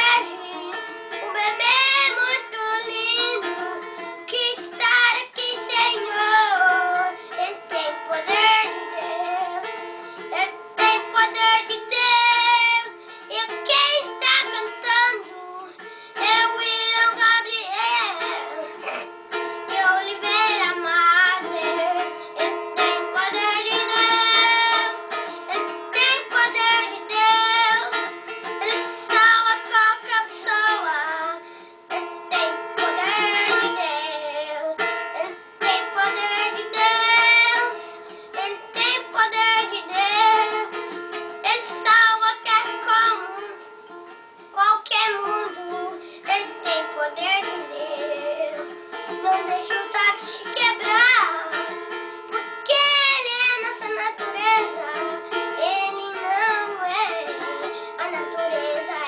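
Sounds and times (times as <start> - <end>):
child singing: 0.0 - 59.0
strummed small guitar chords: 0.0 - 59.0.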